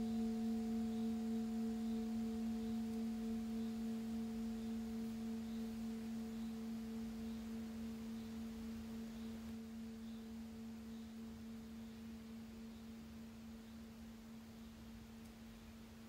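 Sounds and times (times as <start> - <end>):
low steady pure tone: 0.0 - 16.0.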